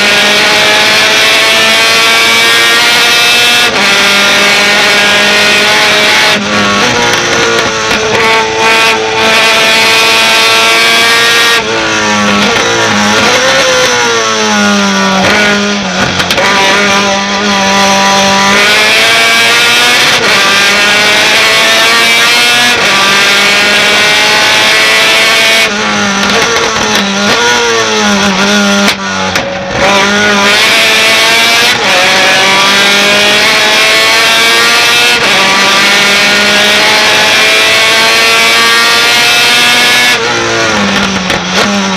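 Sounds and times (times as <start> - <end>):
truck engine at full throttle: 0.0 - 41.9.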